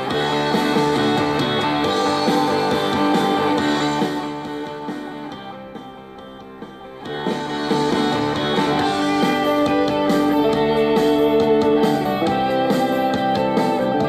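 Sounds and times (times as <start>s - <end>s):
guitar music through speakers: 0.0s - 14.0s.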